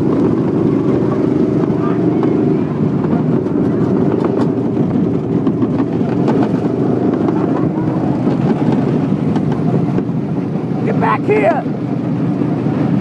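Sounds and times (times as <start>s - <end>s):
go-kart engines droning: 0.0s - 13.0s.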